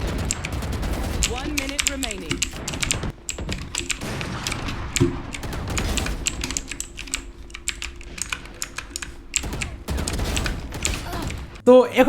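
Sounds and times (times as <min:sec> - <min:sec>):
mechanical keyboard keys clacking: 0:00.0 - 0:00.6, 0:01.2 - 0:11.6
low game sound: 0:00.0 - 0:12.0.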